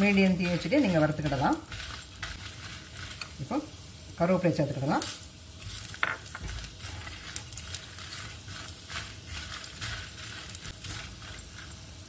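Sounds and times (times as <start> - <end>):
light sizzle in a pan: 0.0 - 12.0
stirring strokes in a pan: 0.0 - 12.0.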